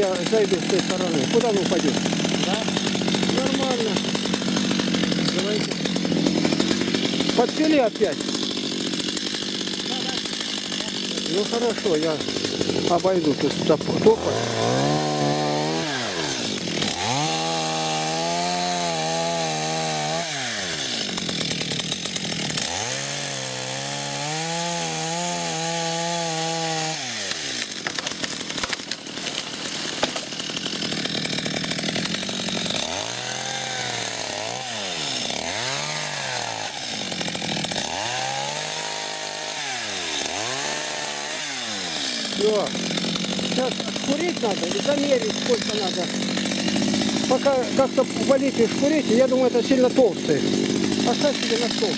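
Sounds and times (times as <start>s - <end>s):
chainsaw sawing through trunk: 0.0s - 51.9s.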